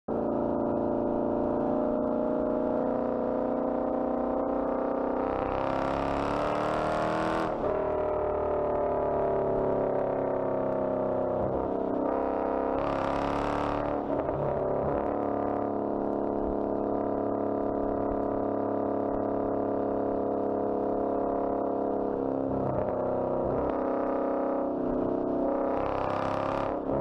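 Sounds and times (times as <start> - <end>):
loud car exhaust drone: 0.1 - 27.0.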